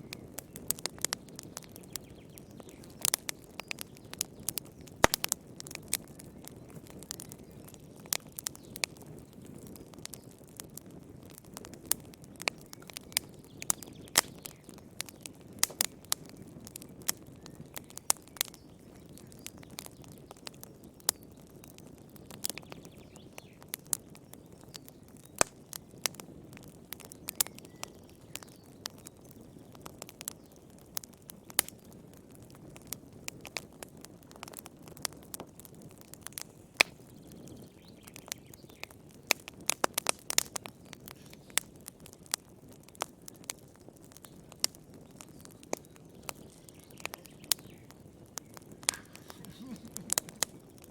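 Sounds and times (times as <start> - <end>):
fireplace fire crackling and popping: 0.0 - 50.9
flame rustle: 0.0 - 50.9.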